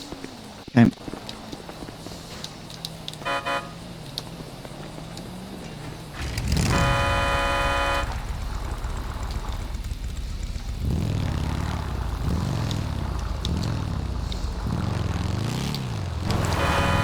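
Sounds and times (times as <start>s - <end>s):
engine rumble: 0.0s - 17.0s
car horn toots: 1.0s - 17.0s
long loud horn blast: 1.3s - 17.0s.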